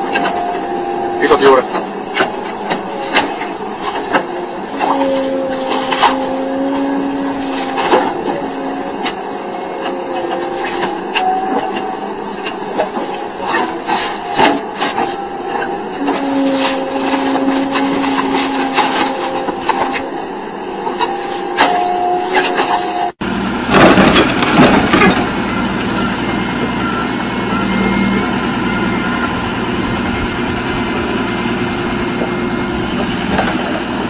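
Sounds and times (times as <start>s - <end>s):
machine whine: 0.0s - 34.0s.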